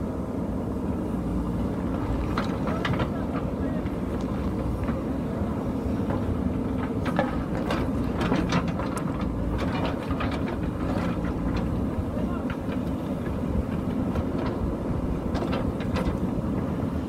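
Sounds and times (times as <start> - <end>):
diesel engine running under load: 0.0 - 17.0
knocks and stone clatter: 2.0 - 5.2, 6.0 - 16.8.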